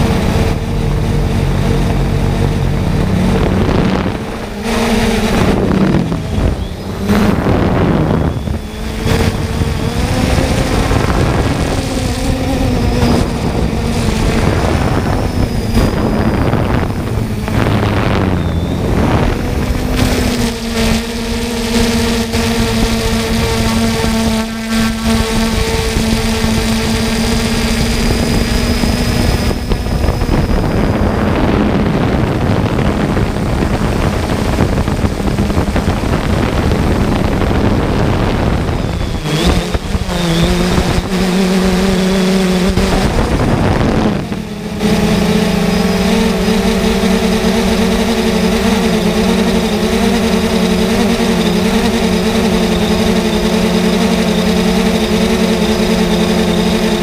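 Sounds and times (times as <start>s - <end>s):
drone propellers humming: 0.0s - 57.0s
wind on microphone: 0.0s - 57.0s.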